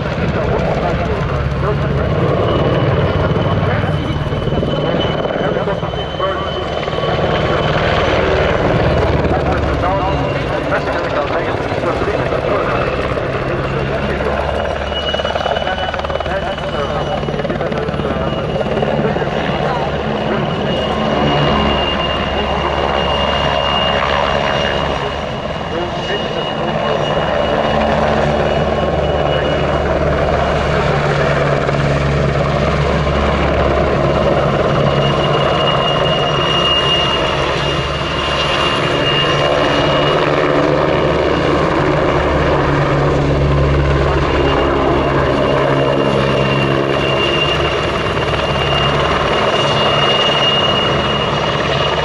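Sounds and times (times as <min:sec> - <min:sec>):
helicopter rotor beat: 0:00.0 - 0:52.0
high turbine whine: 0:00.0 - 0:52.0.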